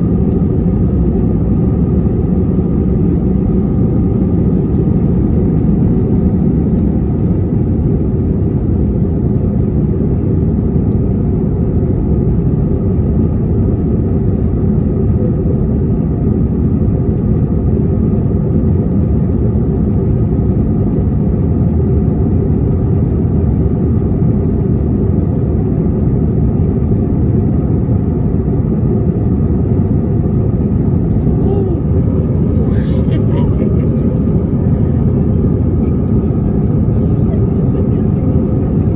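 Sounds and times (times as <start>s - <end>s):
aircraft cabin engine rumble: 0.0s - 26.1s, 27.3s - 38.9s.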